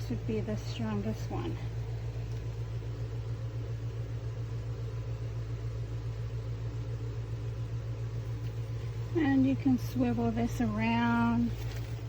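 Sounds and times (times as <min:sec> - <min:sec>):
fan motor humming: 0:00.0 - 0:12.0.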